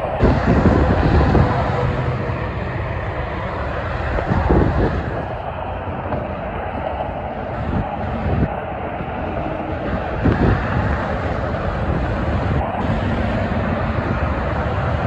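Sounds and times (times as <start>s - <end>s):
highway traffic: 0.0s - 15.0s.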